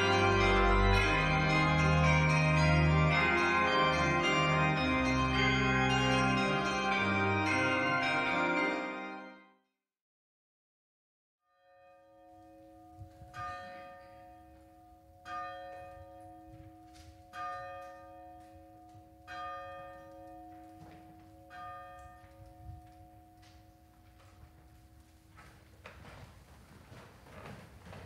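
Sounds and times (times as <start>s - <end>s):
church bell tolling: 0.0s - 9.5s, 11.6s - 25.6s.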